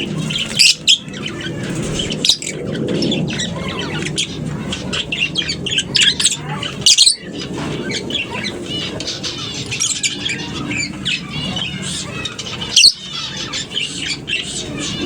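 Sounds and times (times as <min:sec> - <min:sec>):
lovebirds chattering: 0:00.0 - 0:15.0
shrill bird calls: 0:00.0 - 0:15.0.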